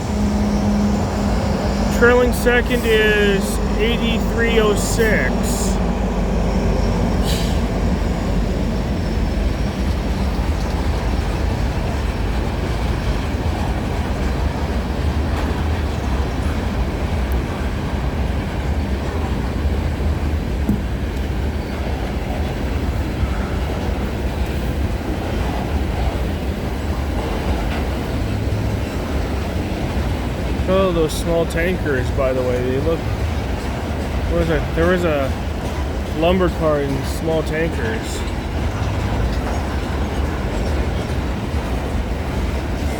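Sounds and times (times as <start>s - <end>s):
steel wheels rumbling on rails: 0.0s - 42.9s.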